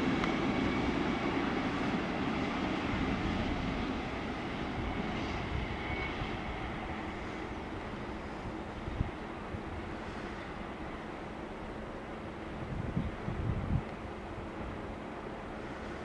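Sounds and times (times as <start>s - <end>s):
freight train rumbling over rails: 0.0s - 16.0s.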